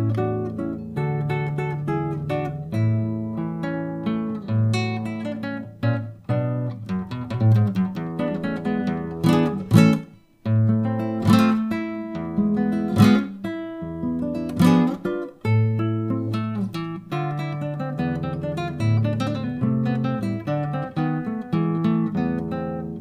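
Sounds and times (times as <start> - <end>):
classical guitar tango: 0.0 - 23.0.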